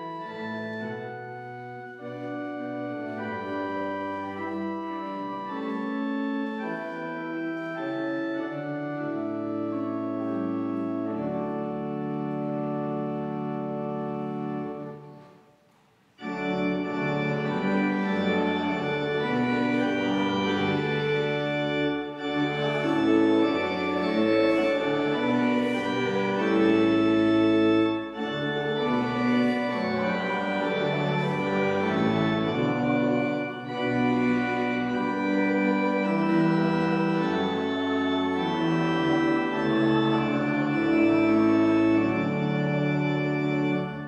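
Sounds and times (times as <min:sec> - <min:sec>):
church organ chords: 0:00.0 - 0:15.5, 0:16.2 - 0:44.0.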